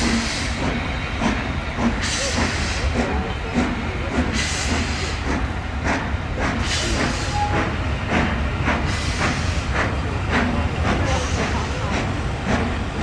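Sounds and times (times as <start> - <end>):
hissing steam: 0.0 - 13.0
steam locomotive chuffing: 0.0 - 13.0.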